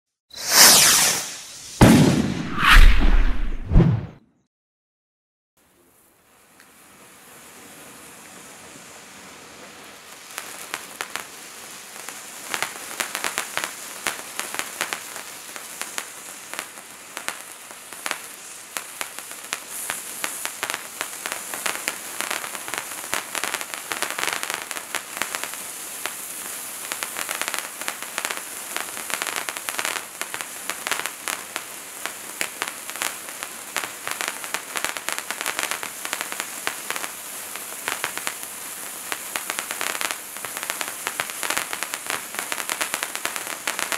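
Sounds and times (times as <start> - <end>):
firework sparks hissing: 0.3 - 3.6, 6.4 - 43.9.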